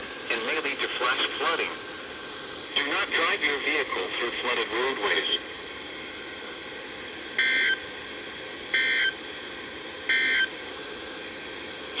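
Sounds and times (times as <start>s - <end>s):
steady radio hiss: 0.0s - 12.0s.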